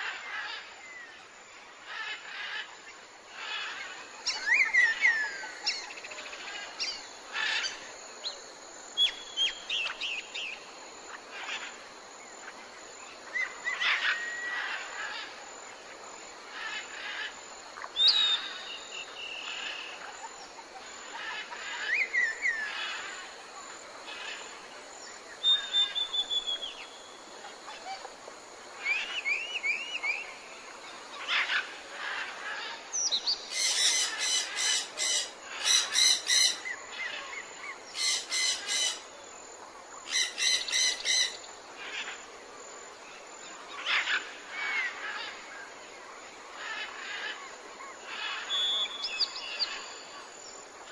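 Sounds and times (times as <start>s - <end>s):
birds chirping and trilling: 1.8s - 8.4s, 9.0s - 15.4s, 16.5s - 39.2s, 40.0s - 42.2s, 43.4s - 50.9s.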